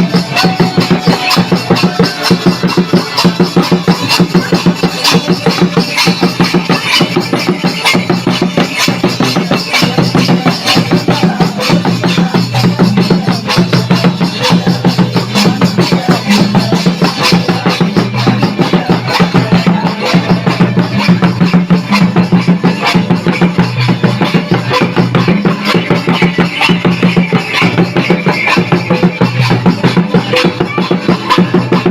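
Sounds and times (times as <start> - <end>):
song with fast drum beat: 0.0 - 31.9.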